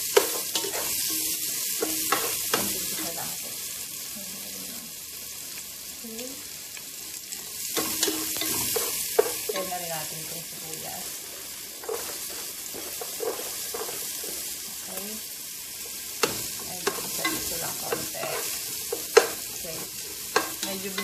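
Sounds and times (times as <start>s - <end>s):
garlic sizzling in oil: 0.0s - 21.0s.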